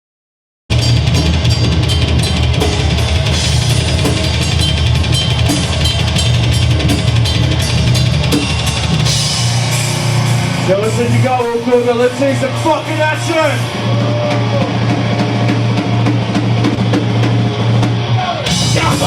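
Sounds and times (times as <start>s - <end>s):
distorted guitar and bass: 0.7s - 19.0s
drum kit pounding fast: 0.7s - 19.0s
heavy bass drum: 0.7s - 19.0s.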